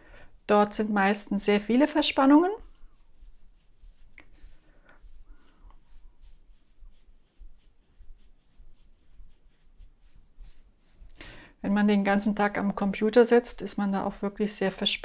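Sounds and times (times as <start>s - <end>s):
fingertips rubbing scalp: 0.3s - 15.0s.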